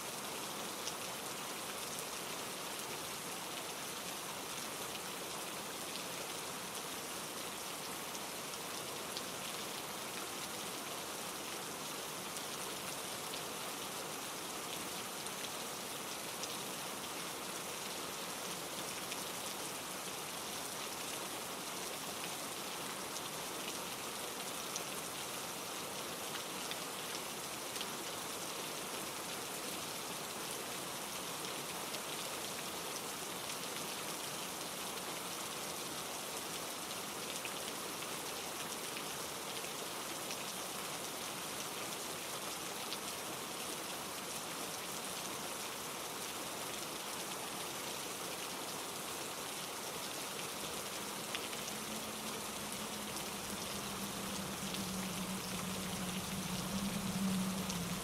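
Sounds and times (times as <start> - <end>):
rain hissing on surfaces: 0.0 - 58.0.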